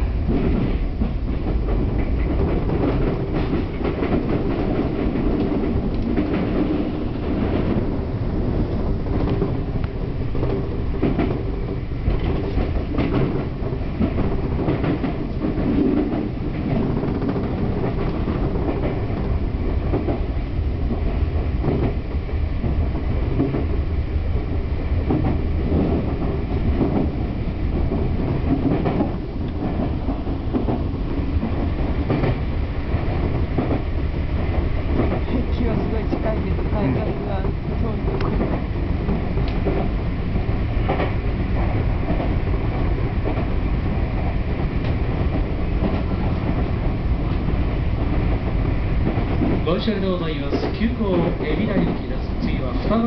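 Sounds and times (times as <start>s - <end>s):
train rumble: 0.0s - 53.0s
train wheel clicks: 0.2s - 23.8s, 25.0s - 53.0s.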